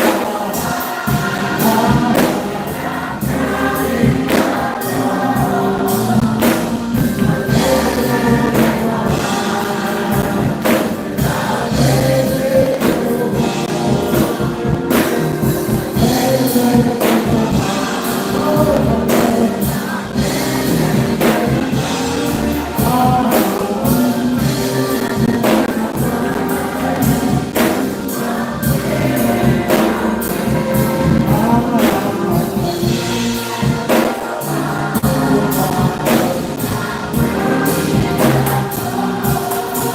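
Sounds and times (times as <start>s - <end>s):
choir and congregation singing: 0.0s - 39.9s
live band playing: 0.0s - 39.9s
percussion steady beat: 0.0s - 39.9s.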